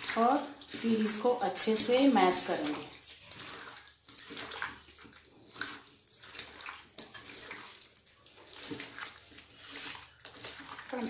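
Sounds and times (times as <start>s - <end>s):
hands squishing wet meat: 0.0s - 11.0s.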